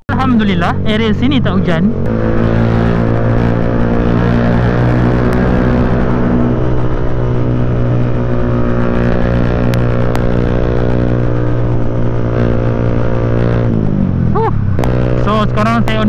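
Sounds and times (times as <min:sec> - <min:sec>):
motorcycle engine cruising: 0:00.0 - 0:16.0
wind rushing: 0:01.9 - 0:15.2.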